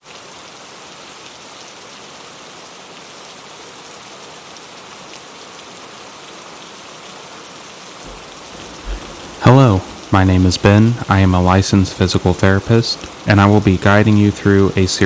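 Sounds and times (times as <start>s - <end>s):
gentle rain falling: 0.0s - 15.0s.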